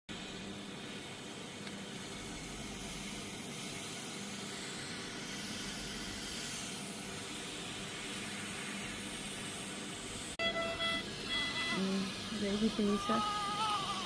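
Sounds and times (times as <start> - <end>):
air hissing through mask: 1.9 - 14.0.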